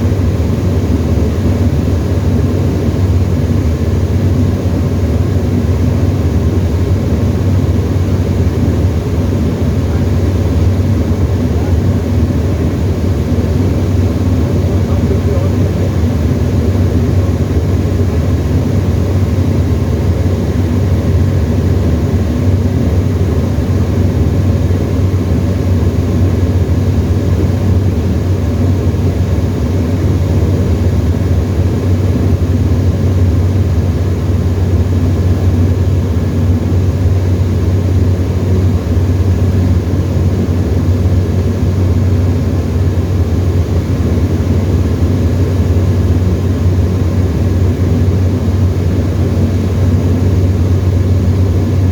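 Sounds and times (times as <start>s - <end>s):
light aircraft engine droning: 0.0s - 51.9s.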